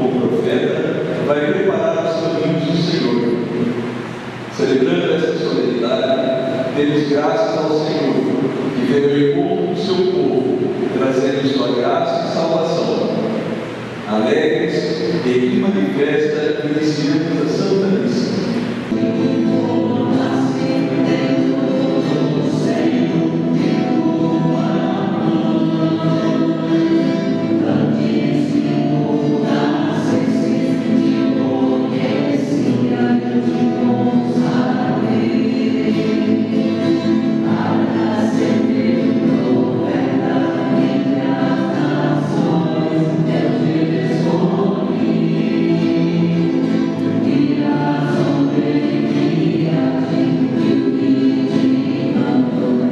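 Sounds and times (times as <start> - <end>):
choir and congregation singing hymn: 0.0 - 52.9
musical accompaniment: 0.0 - 52.9.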